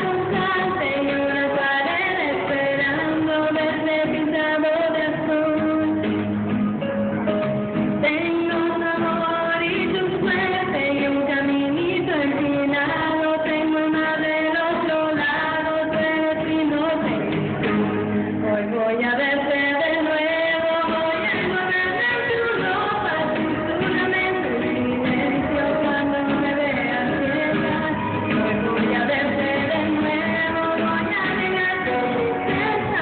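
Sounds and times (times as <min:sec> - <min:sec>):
woman singing into microphone: 0:00.0 - 0:06.5, 0:07.8 - 0:33.0
musical accompaniment: 0:00.0 - 0:33.0.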